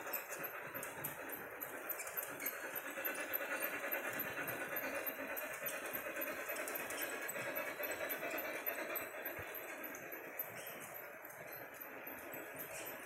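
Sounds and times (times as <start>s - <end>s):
model train whirring and ticking: 0.0s - 13.0s.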